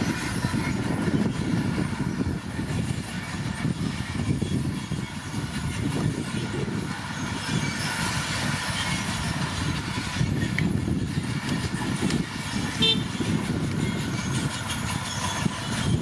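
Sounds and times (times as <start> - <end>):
diesel engine under load: 0.0 - 16.0
steel tracks clattering: 0.0 - 16.0.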